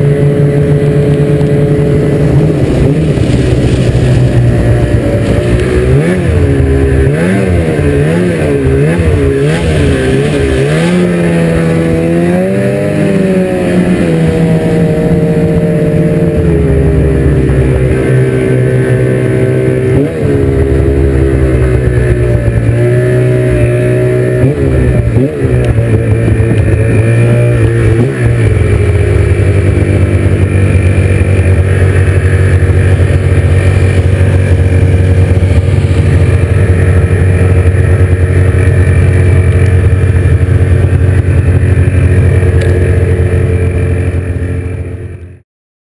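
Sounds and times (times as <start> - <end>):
snowmobile engine running: 0.0 - 45.4.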